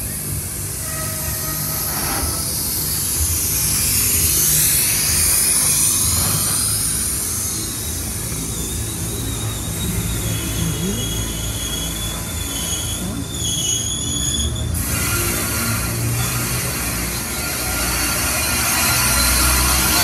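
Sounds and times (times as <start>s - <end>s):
high-pitched wheel whine: 0.0s - 20.0s
train wheels rumbling on rail: 0.0s - 20.0s.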